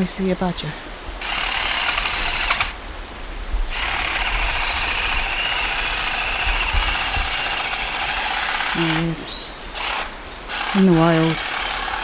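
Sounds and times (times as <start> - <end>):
power tool motor rattling: 1.2 - 2.8, 3.7 - 12.0.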